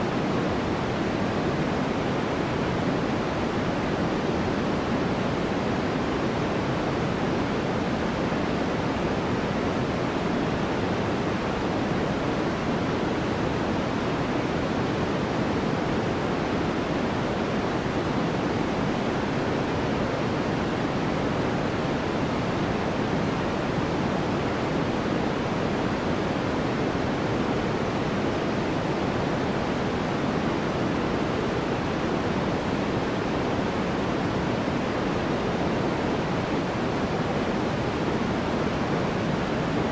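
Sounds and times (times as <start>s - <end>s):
steady synthesized hiss: 0.0s - 39.9s.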